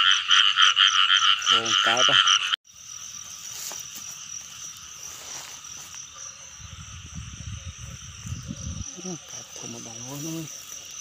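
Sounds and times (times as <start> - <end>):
frogs calling: 0.0 - 11.0
high insect trill: 0.0 - 11.0.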